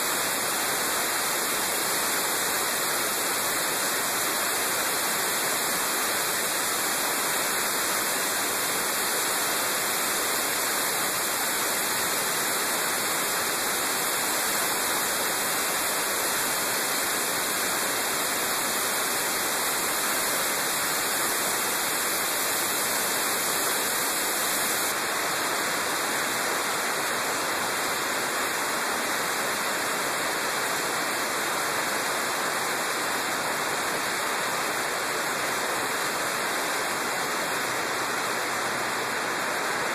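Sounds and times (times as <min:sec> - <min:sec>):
wind hiss over camera: 0:00.0 - 0:39.9.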